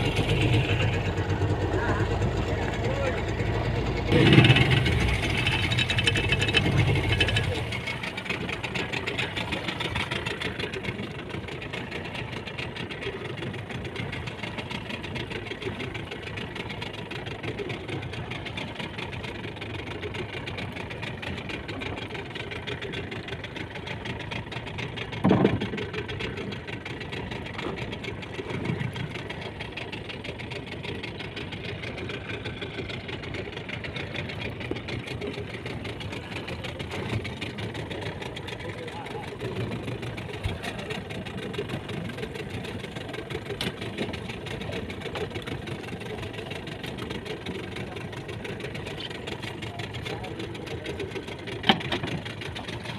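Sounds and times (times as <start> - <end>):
boat engine idling: 0.0 - 52.9.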